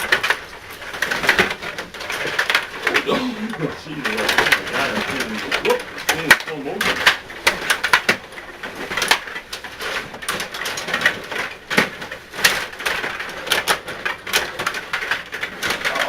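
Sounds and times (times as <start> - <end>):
rod hockey clicks and clacks: 0.0 - 16.0.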